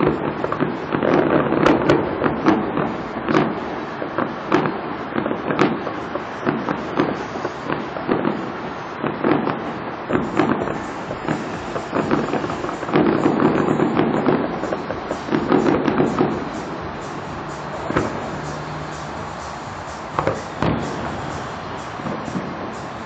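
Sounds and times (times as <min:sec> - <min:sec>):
continuous rumble: 0:00.0 - 0:23.0
fireworks bangs and crackles: 0:00.0 - 0:23.0.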